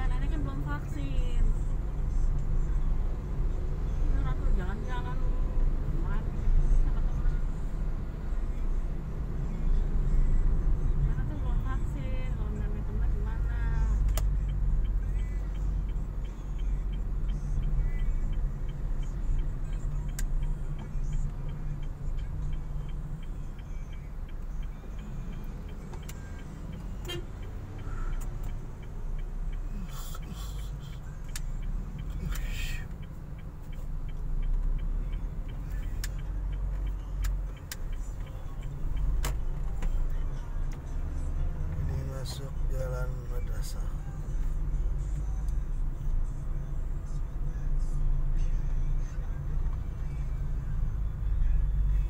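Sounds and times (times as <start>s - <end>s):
car engine and tyres rumbling: 0.0s - 52.0s.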